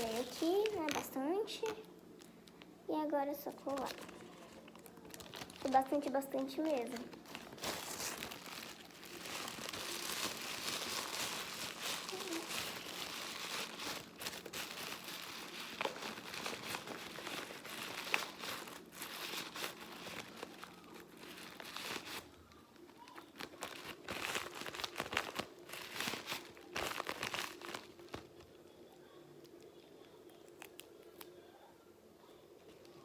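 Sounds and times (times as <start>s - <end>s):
paper and plastic crinkling: 0.0s - 2.7s, 3.4s - 28.5s.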